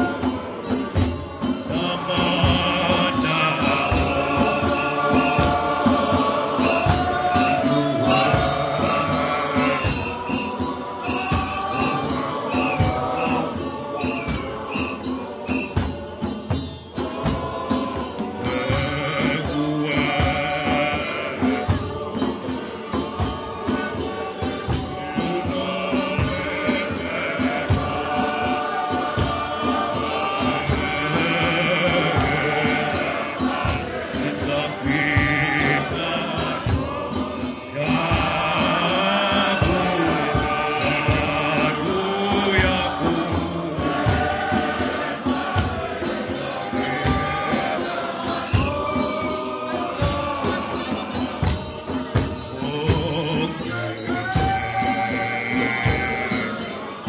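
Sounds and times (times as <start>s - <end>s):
choir and congregation singing hymn: 0.0s - 57.0s.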